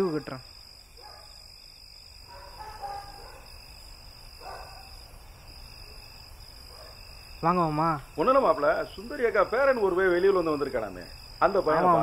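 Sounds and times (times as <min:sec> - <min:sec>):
high insect chirring: 0:00.0 - 0:12.0.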